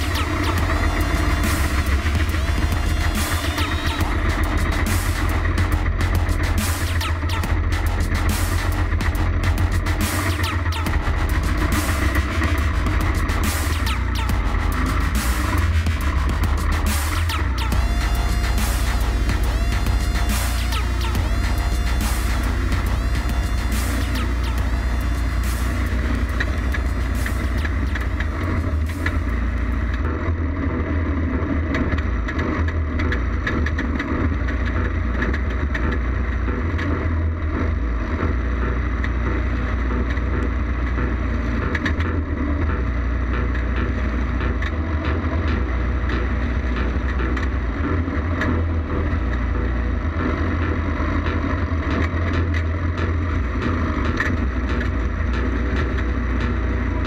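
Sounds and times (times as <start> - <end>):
kart engine running: 0.0 - 57.0.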